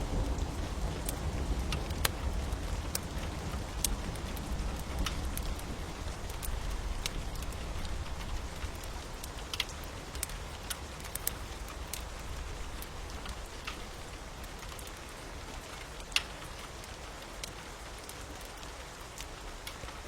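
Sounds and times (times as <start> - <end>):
fire crackling and popping: 0.0 - 20.0
rain hiss: 0.0 - 20.0.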